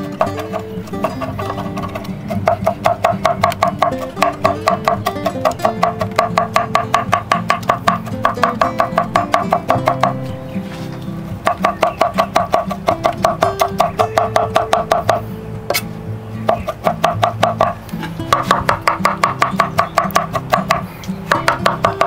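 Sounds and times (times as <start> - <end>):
background music: 0.0 - 22.0
knife chopping on cutting board: 0.1 - 10.2, 11.4 - 15.8, 16.5 - 22.0.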